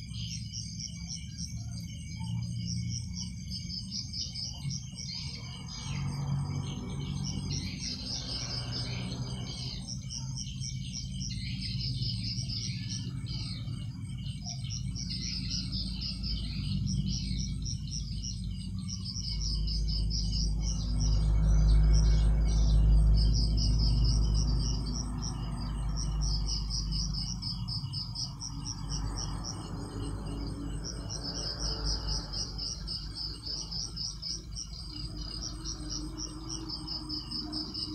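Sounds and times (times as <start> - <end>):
crickets and insects chirping: 0.0 - 37.9.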